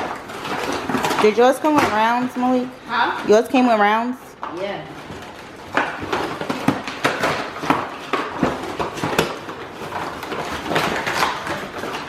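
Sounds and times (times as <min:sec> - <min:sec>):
packaging rustle: 0:00.0 - 0:03.3, 0:04.9 - 0:12.0.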